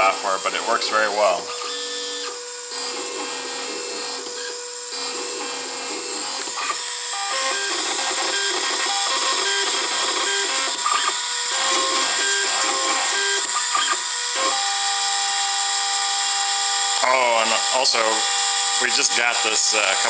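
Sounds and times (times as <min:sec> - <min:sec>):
milling spindle whining: 0:00.0 - 0:20.0.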